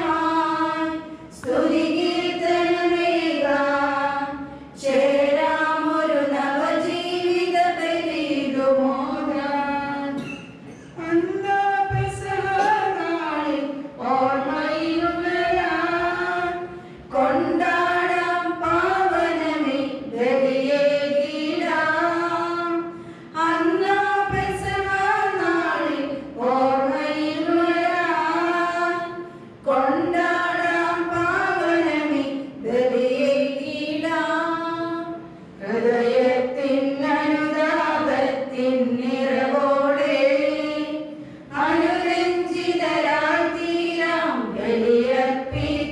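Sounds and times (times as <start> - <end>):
unaccompanied liturgical singing: 0.0 - 45.9.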